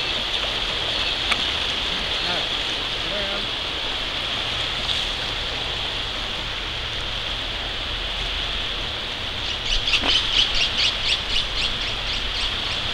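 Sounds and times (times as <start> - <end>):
creek water over rapids: 0.0 - 12.9.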